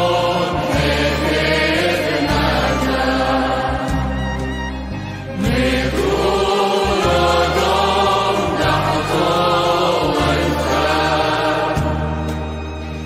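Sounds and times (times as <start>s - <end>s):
choir singing slow chant: 0.0s - 4.2s, 5.3s - 13.0s.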